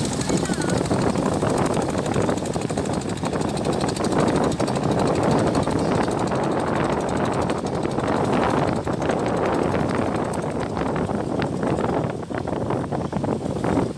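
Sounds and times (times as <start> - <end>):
boat engine drone: 0.0 - 13.9
water rushing: 0.0 - 13.9.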